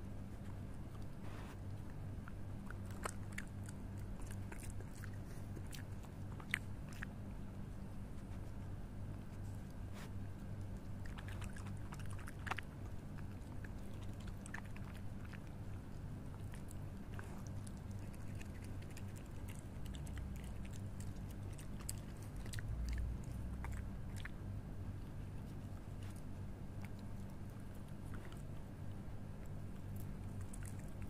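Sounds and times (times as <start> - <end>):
animal chewing wetly: 0.1 - 31.0.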